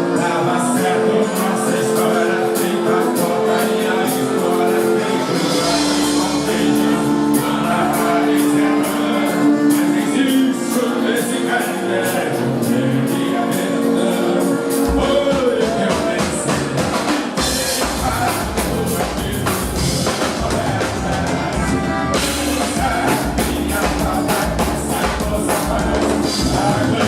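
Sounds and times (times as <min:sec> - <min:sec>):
band playing held chords: 0:00.0 - 0:27.0.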